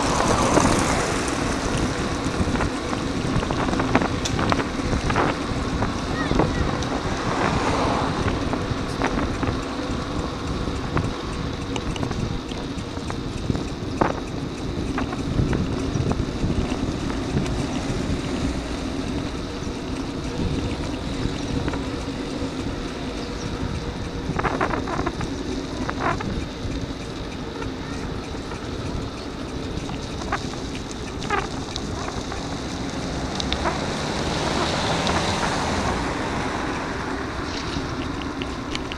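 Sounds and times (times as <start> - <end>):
road rumble: 0.0 - 38.9
wind noise on microphone: 0.0 - 38.9.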